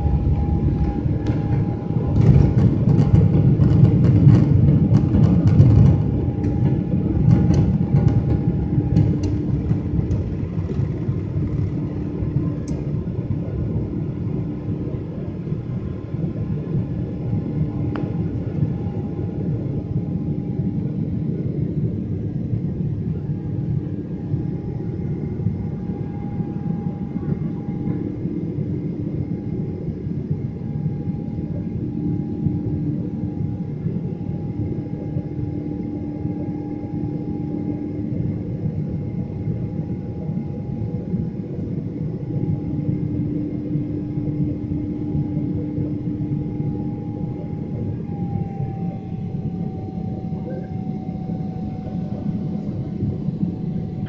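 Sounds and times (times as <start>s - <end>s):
jet engine and airflow rumble: 0.0s - 54.0s
steady hum tones: 0.0s - 54.0s.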